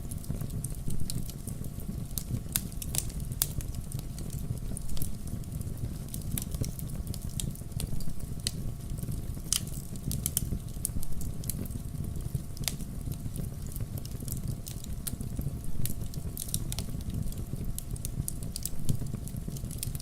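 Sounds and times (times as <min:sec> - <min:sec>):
burning logs crackling: 0:00.0 - 0:20.0
low rumble of flames: 0:00.0 - 0:20.0
sharp pops of fire: 0:00.2 - 0:20.0.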